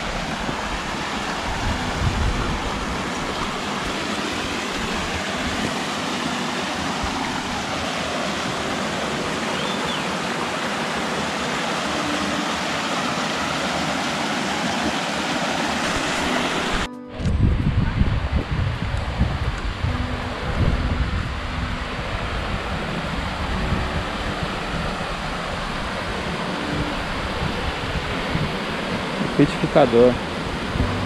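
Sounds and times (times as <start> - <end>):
water rushing over rocks: 0.0 - 31.0.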